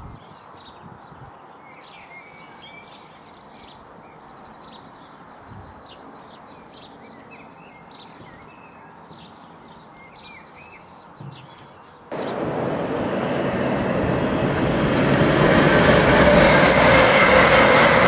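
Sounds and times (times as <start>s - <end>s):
small birds chirping: 0.0s - 16.6s
outdoor background rush: 0.0s - 18.0s.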